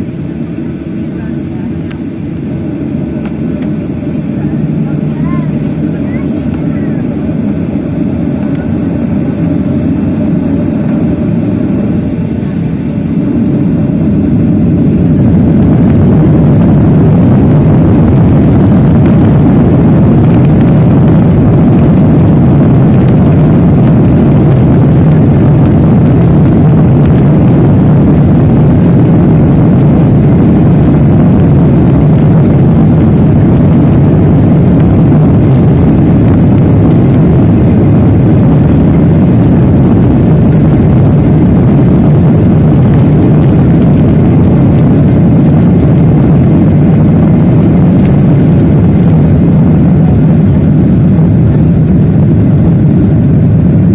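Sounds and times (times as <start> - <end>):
jet engines roaring in cabin: 0.0 - 53.9.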